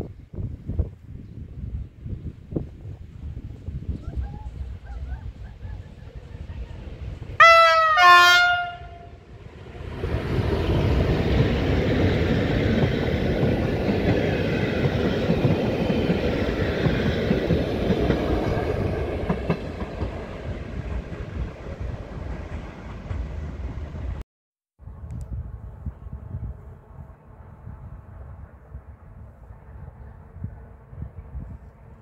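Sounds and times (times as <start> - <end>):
passenger train passing: 0.3 - 24.2, 25.2 - 32.0.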